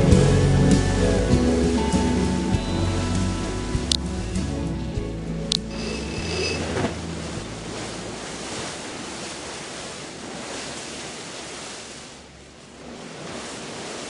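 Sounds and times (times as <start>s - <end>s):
sea waves: 1.7s - 14.0s
wind: 1.8s - 14.0s.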